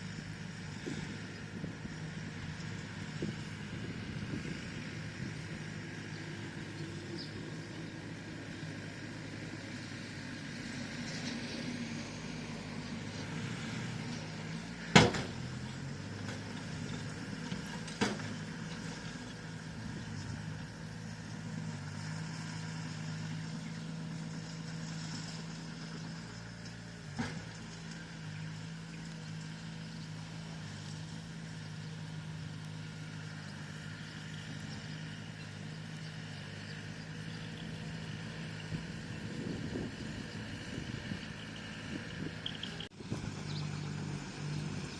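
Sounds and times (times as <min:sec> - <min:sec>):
bulldozer diesel engine: 0:00.0 - 0:44.9.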